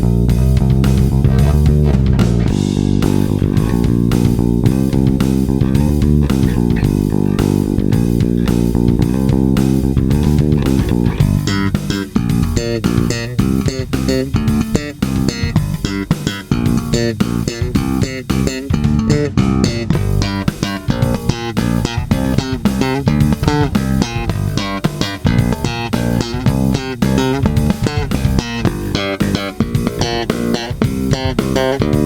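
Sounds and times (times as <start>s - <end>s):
electric bass plucked notes: 0.0s - 32.0s.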